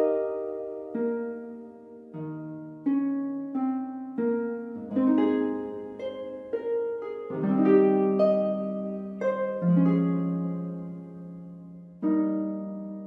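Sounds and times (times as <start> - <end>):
slow plucked melody: 0.0 - 13.0.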